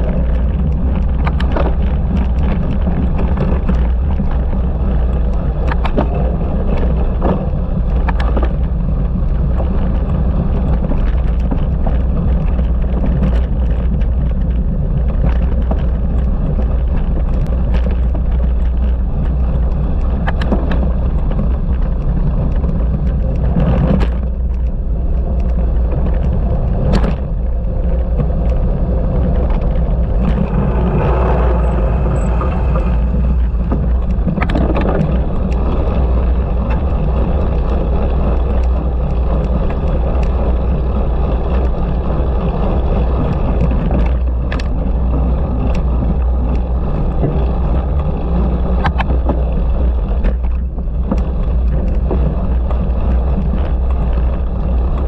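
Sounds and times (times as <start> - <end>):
bike knocking and rattling: 0.0 - 55.0
wind rumble on microphone: 0.0 - 55.0.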